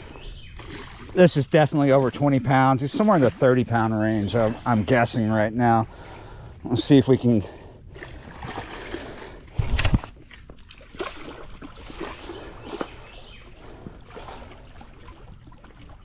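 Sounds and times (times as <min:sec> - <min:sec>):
fish splashing in shallow water: 0:00.0 - 0:05.2, 0:07.6 - 0:16.0.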